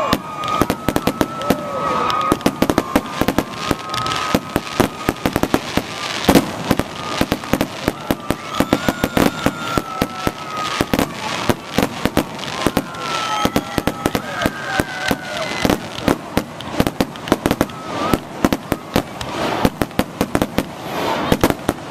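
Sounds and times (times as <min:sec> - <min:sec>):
fireworks bangs and crackling: 0:00.0 - 0:21.9.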